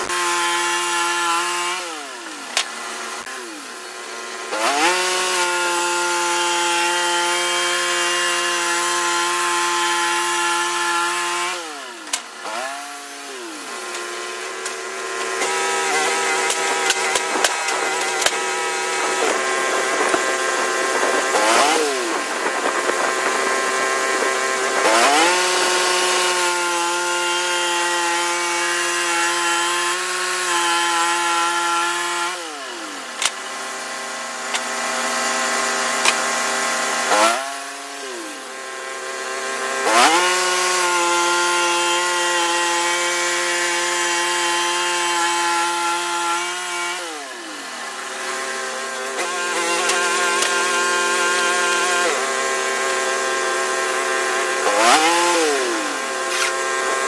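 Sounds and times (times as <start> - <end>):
band sawmill cutting logs: 0.0 - 57.0.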